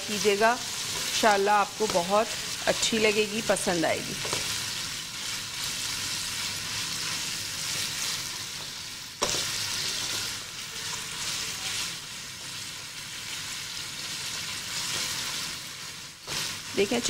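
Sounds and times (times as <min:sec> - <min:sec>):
chicken sizzling in hot oil: 0:00.0 - 0:17.0
spatula stirring in wok: 0:00.0 - 0:17.0.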